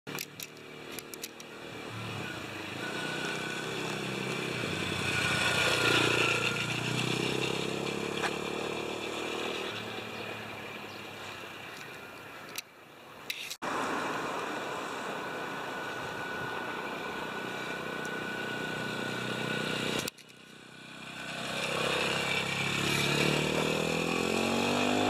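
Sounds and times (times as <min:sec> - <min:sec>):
motorcycle riding past: 0:00.6 - 0:11.0, 0:13.7 - 0:25.0.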